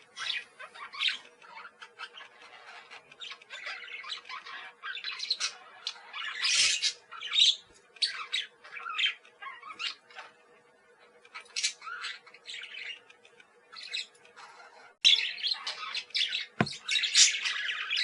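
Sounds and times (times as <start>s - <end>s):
parakeets chattering: 0.0s - 18.0s.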